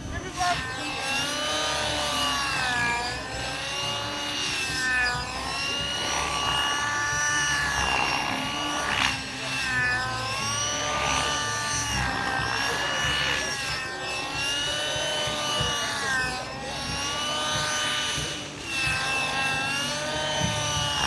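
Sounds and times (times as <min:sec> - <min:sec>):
paramotor engine droning: 0:00.0 - 0:21.0.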